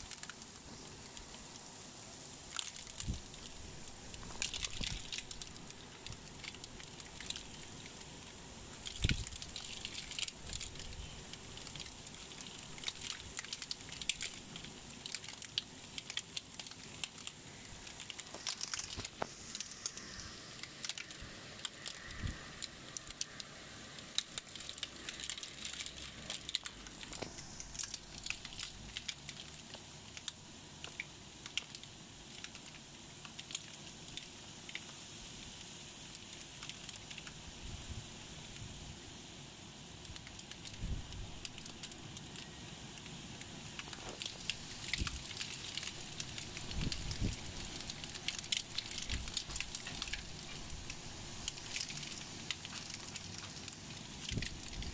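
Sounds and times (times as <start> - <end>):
steady hiss: 0.0 - 54.9
hailstones striking hard surfaces: 2.4 - 35.0, 40.1 - 54.9.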